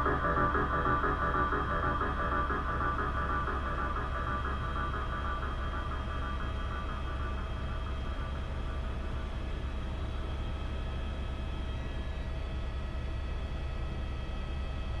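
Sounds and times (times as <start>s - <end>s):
faint music: 0.0s - 12.4s
turbine engine whine: 0.0s - 14.4s
helicopter rotor drone: 0.0s - 14.9s.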